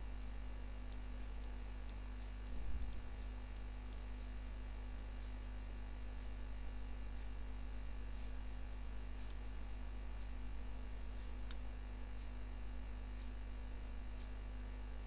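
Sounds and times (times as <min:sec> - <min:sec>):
electrical mains hum: 0:00.0 - 0:15.0
faint ticks: 0:00.2 - 0:05.9, 0:06.6 - 0:14.7.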